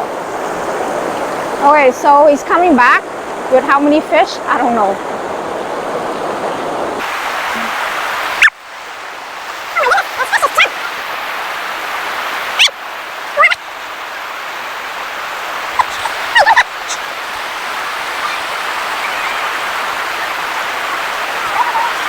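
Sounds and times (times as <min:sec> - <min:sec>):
river water rushing: 0:00.0 - 0:22.0
distant voices calling out: 0:01.6 - 0:08.6, 0:09.6 - 0:11.2, 0:12.4 - 0:22.0.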